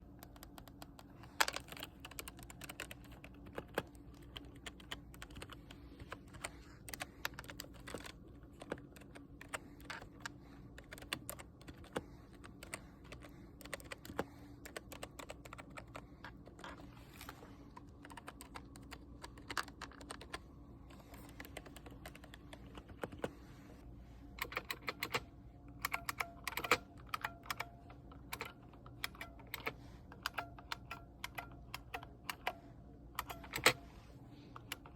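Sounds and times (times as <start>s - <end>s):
typing on computer keyboard: 0.1s - 16.7s, 17.8s - 23.3s, 24.4s - 25.2s, 25.8s - 32.6s, 33.2s - 33.8s.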